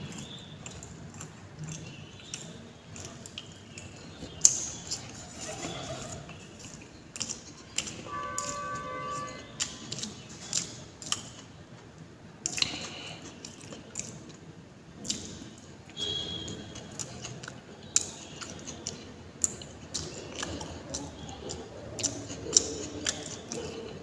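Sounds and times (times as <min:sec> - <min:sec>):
wet eating sounds: 0:00.0 - 0:11.6, 0:12.4 - 0:24.0.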